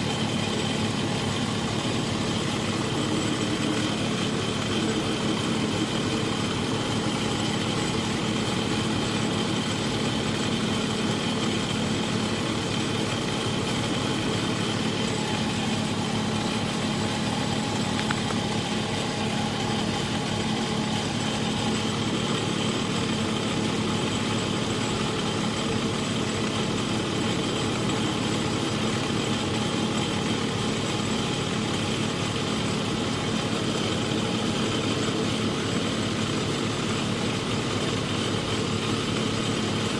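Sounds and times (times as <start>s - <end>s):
lathe motor hum: 0.0s - 39.9s.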